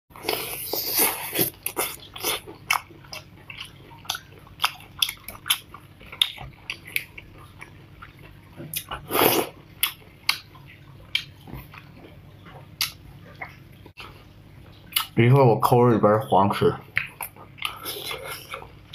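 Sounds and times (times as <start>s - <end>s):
chewing and sucking shells: 0.2s - 14.1s, 17.0s - 18.9s.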